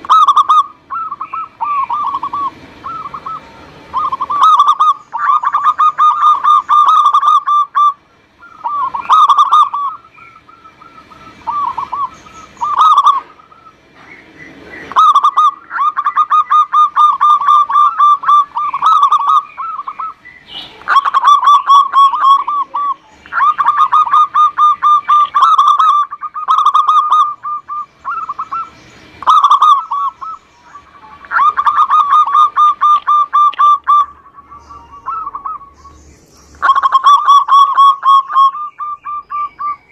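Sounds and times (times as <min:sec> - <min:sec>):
dove cooing: 0:00.0 - 0:36.0, 0:36.6 - 0:39.9.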